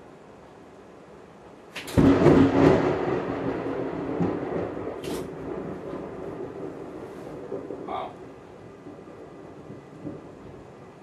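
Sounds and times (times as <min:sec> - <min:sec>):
thunder crack and rumble: 0:01.8 - 0:11.0.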